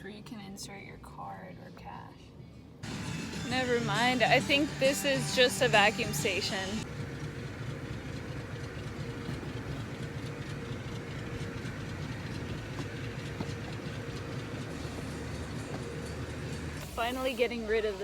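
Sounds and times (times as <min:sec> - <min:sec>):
steady mechanical rumble: 0:00.0 - 0:18.0.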